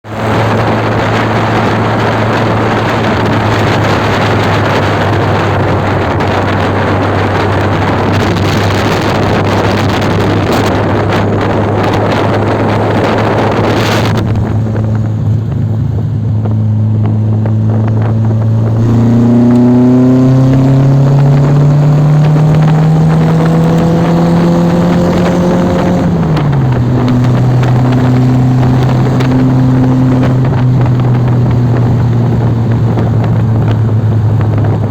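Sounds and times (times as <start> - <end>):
vehicle engine accelerating: 0.0 - 34.9.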